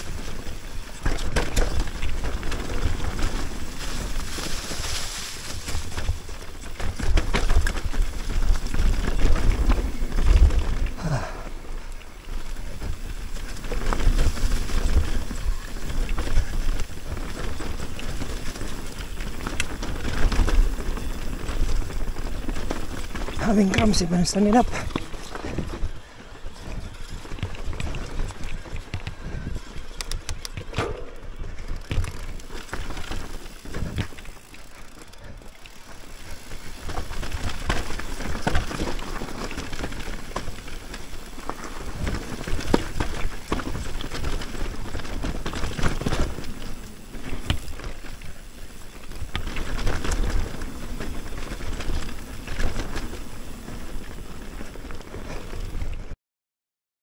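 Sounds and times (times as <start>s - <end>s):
mountain bike rumbling over trail: 0.0s - 56.1s.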